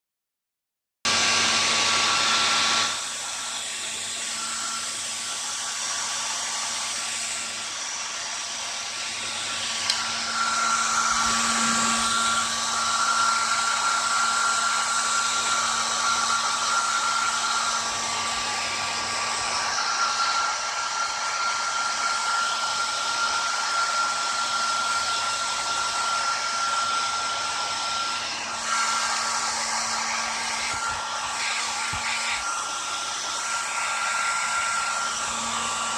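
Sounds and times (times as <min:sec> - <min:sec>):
hair dryer blowing: 0:01.1 - 0:35.9.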